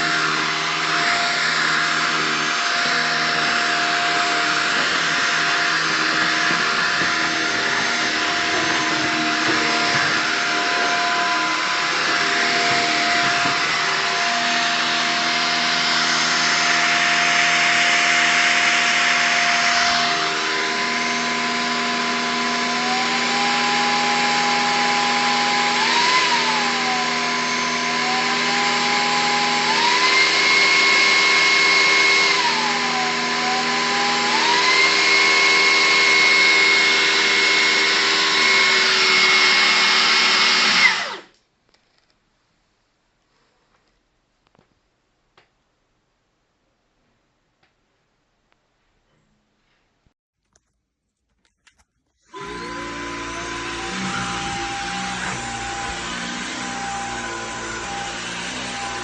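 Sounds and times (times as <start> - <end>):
stick vacuum running: 0.0 - 41.3, 52.3 - 59.0.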